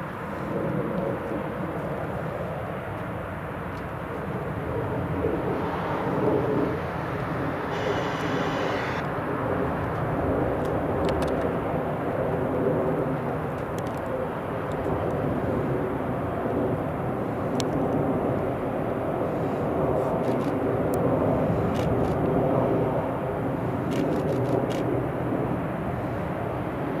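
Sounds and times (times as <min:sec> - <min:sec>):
jet aircraft rumble: 0:00.0 - 0:27.0.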